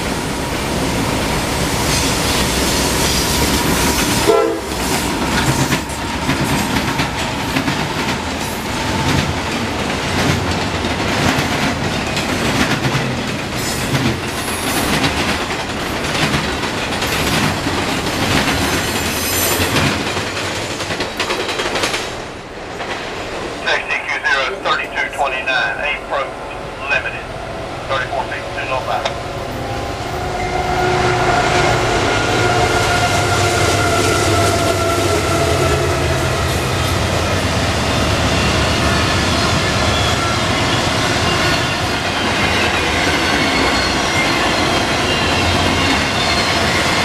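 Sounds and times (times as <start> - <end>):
heavy train rumble: 0.0 - 47.0.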